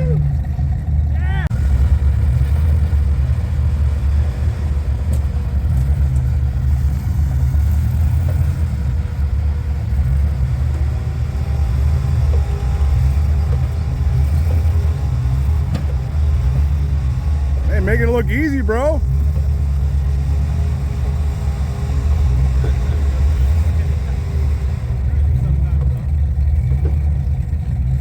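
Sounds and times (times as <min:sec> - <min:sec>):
vehicle engine rumbling at low revs: 0:00.0 - 0:28.0.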